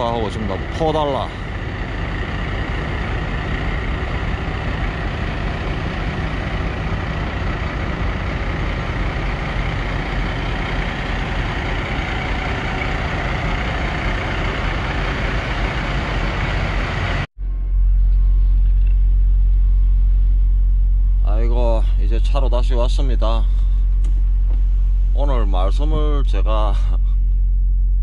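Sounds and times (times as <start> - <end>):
diesel trucks idling: 0.0 - 17.3, 18.2 - 27.4
deep low hum: 0.0 - 28.0
faint high whine: 0.0 - 28.0.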